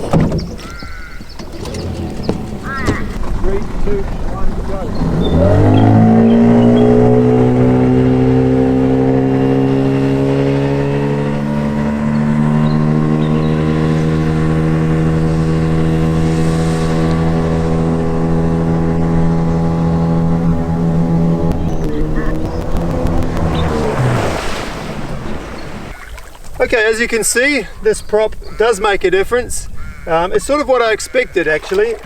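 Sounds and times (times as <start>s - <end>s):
outboard motor at full throttle: 0.0s - 32.0s.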